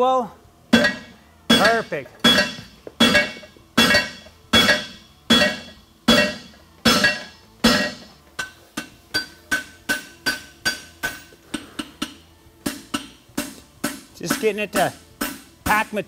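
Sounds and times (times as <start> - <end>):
hammer striking hot steel on anvil: 0.7 - 16.0.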